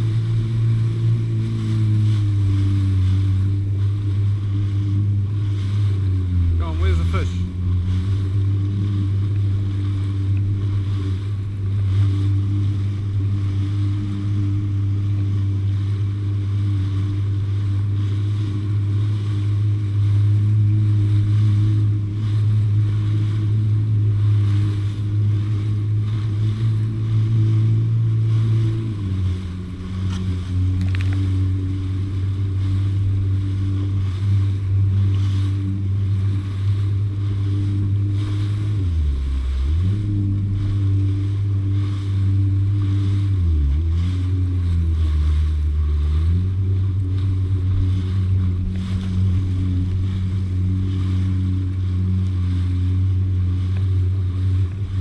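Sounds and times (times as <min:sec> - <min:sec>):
jet ski engine running: 0:00.0 - 0:55.0
water rushing past hull: 0:00.0 - 0:55.0.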